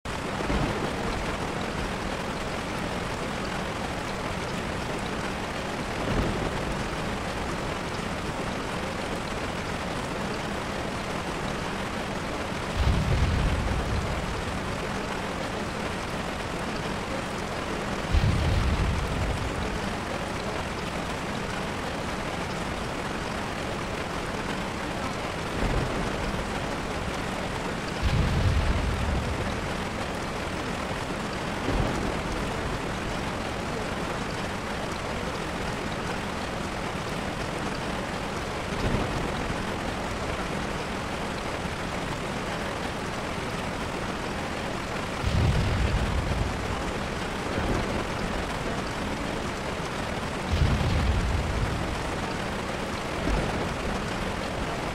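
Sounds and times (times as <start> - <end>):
steady rushing noise: 0.1 - 54.9.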